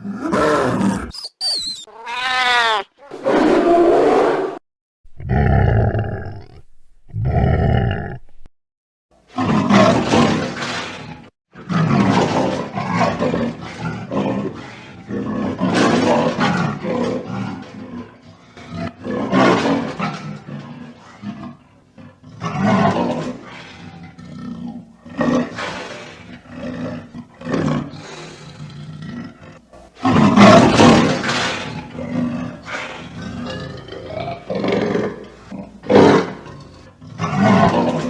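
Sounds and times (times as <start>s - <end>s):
leopard roaring: 3.1s - 8.5s, 11.7s - 38.0s.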